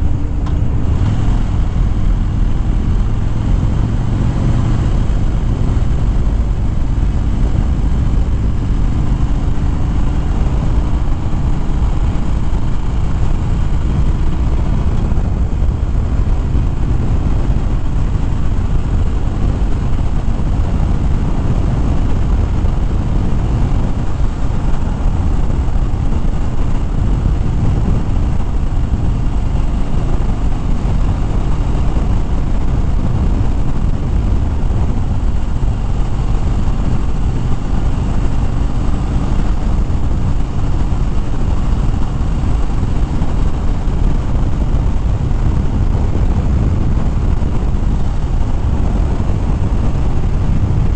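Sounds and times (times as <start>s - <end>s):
motorcycle engine cruising: 0.0s - 50.9s
wind rush: 0.0s - 50.9s.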